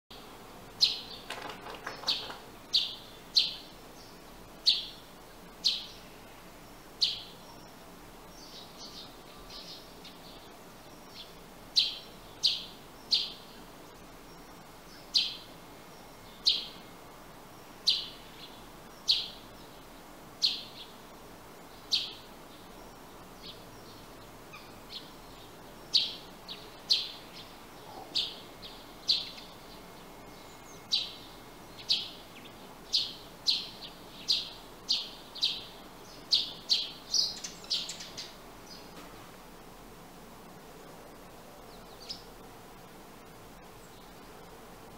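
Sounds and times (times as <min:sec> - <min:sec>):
sparrow chirping: 0:00.2 - 0:21.0, 0:21.6 - 0:39.0, 0:41.7 - 0:42.4.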